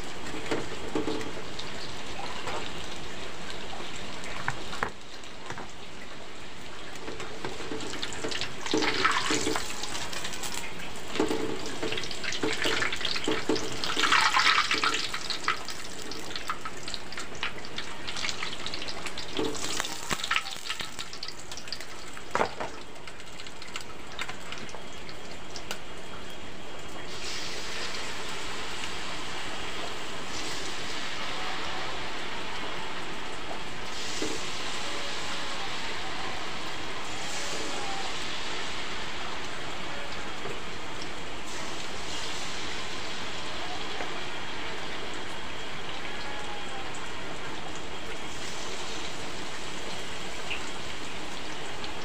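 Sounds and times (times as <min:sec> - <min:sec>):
battered food deep-frying in oil: 0:00.0 - 0:52.0.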